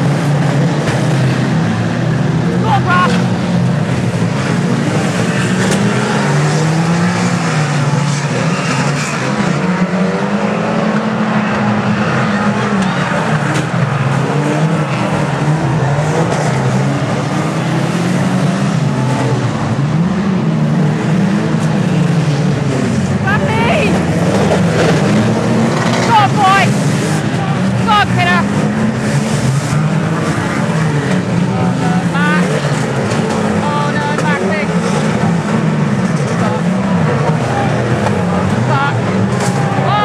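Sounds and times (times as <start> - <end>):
racing car engines revving: 0.0 - 40.0.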